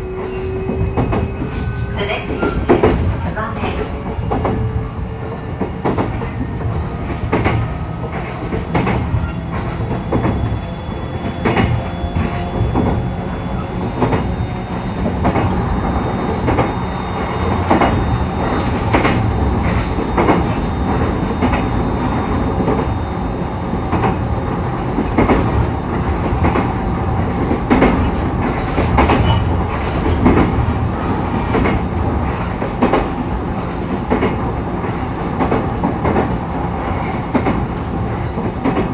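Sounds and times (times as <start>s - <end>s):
rail joint clacks: 0.0s - 38.9s
train rolling rumble: 0.0s - 38.9s.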